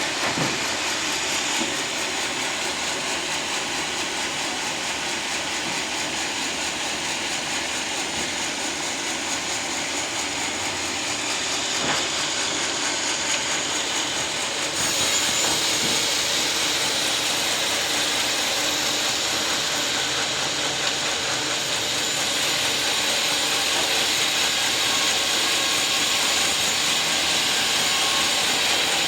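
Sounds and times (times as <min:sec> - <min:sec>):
sawmill whirring and hissing: 0:00.0 - 0:29.0.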